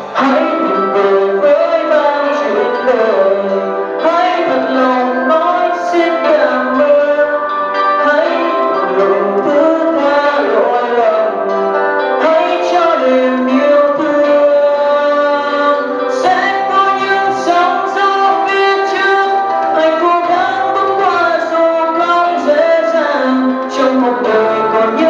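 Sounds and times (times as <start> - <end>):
instrumental accompaniment: 0.0 - 25.0
person singing: 0.0 - 25.0.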